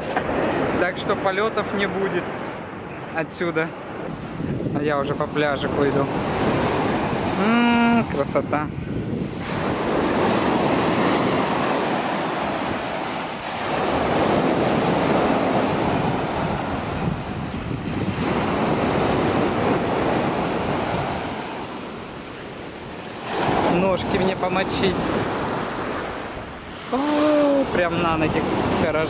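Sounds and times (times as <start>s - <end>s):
surf washing over sandy beach: 0.0s - 29.0s
wind buffeting microphone: 3.8s - 29.0s.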